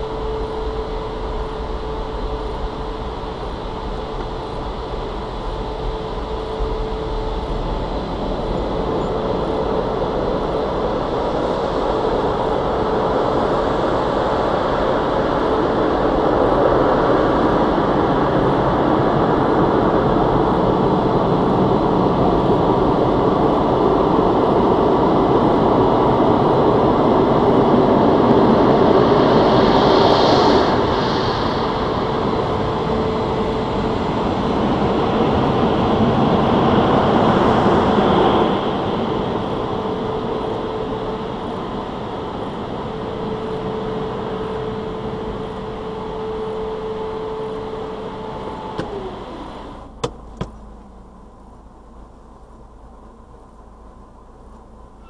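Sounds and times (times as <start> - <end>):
faint motor hum: 0.0 - 55.0.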